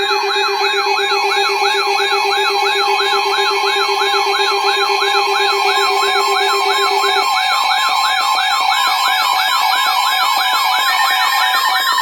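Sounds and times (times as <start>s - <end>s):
electronic alert siren: 0.0s - 12.0s.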